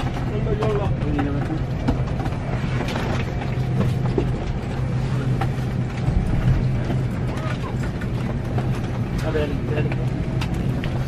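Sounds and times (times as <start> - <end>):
aircraft cabin air hum: 0.0 - 11.0.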